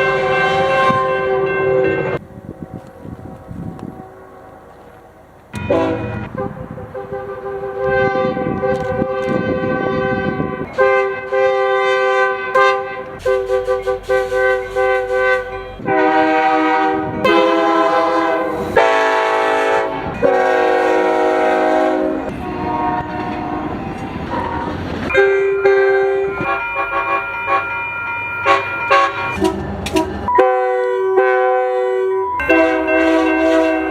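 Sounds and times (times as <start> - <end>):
locomotive air horns: 0.0 - 2.2, 5.6 - 27.8, 28.4 - 33.9.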